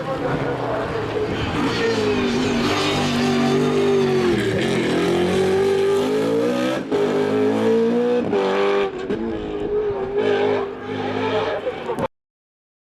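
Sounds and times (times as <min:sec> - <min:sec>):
racing engine accelerating hard: 0:00.1 - 0:11.6.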